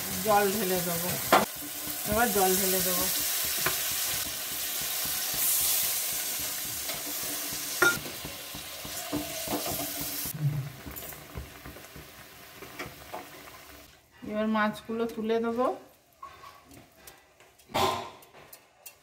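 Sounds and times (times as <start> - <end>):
spice paste sizzling in oil: 0.0 - 16.2.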